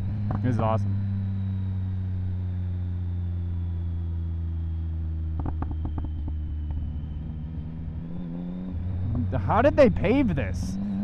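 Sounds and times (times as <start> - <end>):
motorcycle engine braking: 0.0 - 4.0, 5.1 - 11.0.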